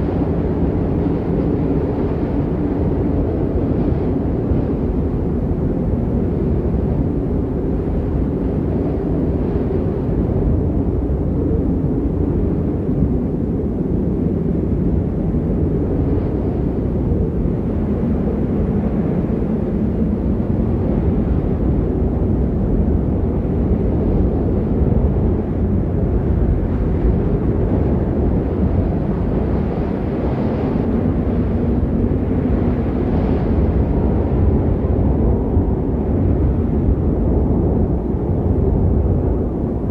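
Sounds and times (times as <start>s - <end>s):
low rumbling snowstorm wind: 0.0s - 39.9s.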